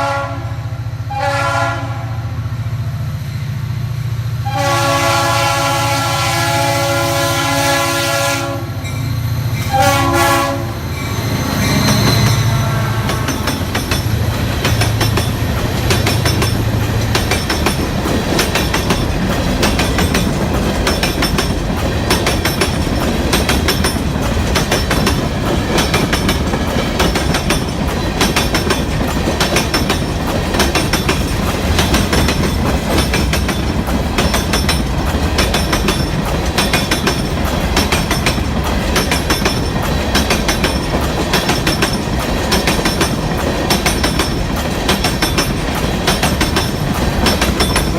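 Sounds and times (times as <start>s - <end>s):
train wheels clicking over rails: 5.4s - 47.9s.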